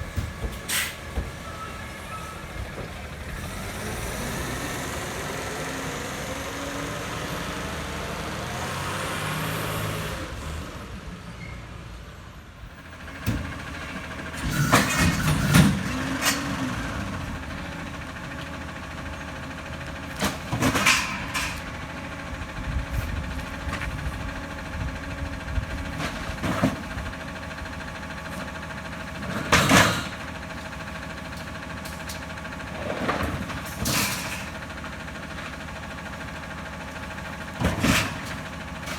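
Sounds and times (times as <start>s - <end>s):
garbage truck engine revving: 0.0s - 11.0s, 12.8s - 38.9s.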